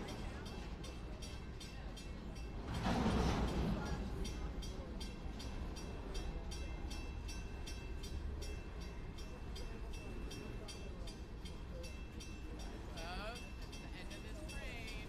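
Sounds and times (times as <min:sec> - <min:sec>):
crossing bell ringing: 0:00.0 - 0:15.0
freight train cars rumbling and clattering: 0:00.0 - 0:15.0.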